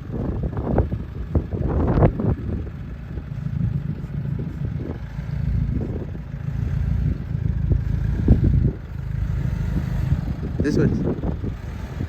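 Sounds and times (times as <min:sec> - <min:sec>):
motor running with low rumble: 0:00.0 - 0:12.0.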